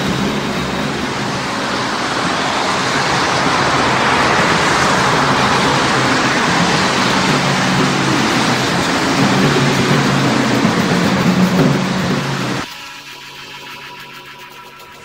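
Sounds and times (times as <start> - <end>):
vehicle passing by: 0.0 - 12.6
road traffic noise: 0.0 - 12.7.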